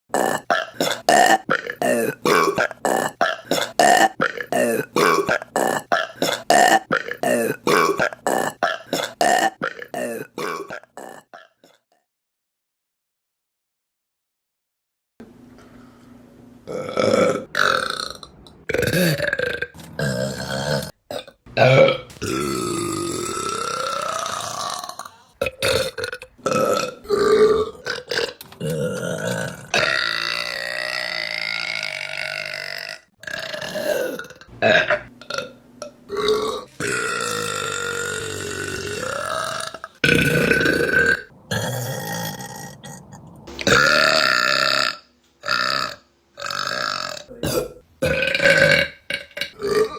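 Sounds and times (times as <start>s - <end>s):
woman burping: 0.1s - 11.8s, 16.7s - 49.9s.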